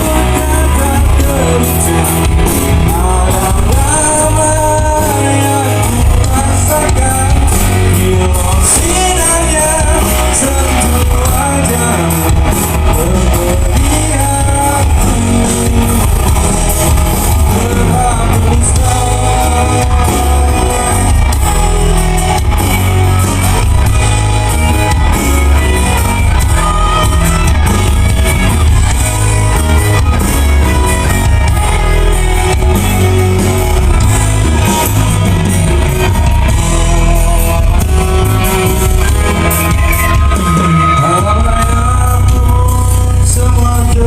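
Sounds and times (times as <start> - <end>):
person singing: 0.0 - 44.0
rock band playing live: 0.0 - 44.0.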